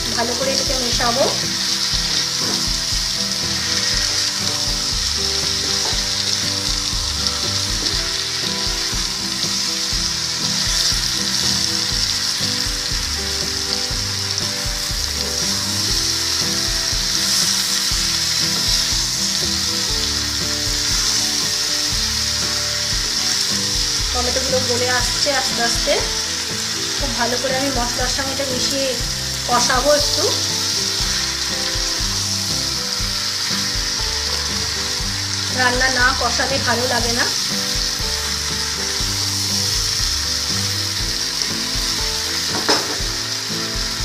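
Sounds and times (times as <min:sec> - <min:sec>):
spatula stirring and scraping: 0:00.0 - 0:43.2
vegetables sizzling in oil: 0:00.0 - 0:44.0.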